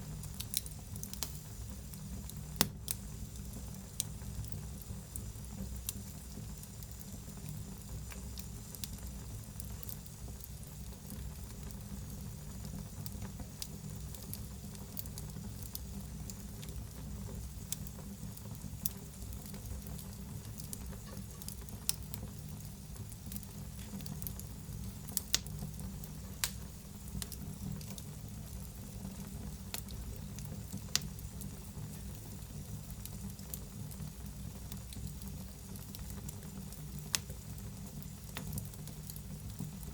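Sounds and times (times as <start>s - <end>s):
fire crackling and popping: 0.0s - 39.9s
fire rumbling and hissing: 0.0s - 39.9s.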